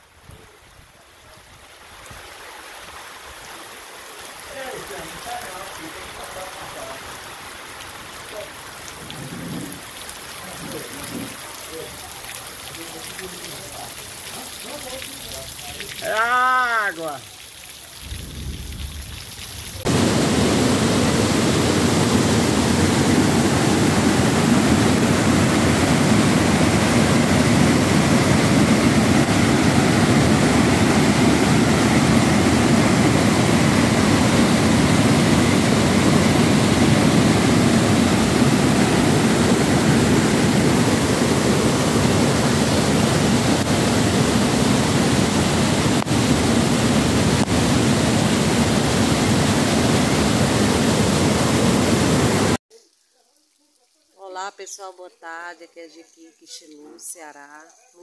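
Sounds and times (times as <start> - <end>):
river in flood rushing: 0.0 - 18.2, 19.8 - 52.6
rain falling: 0.0 - 54.4.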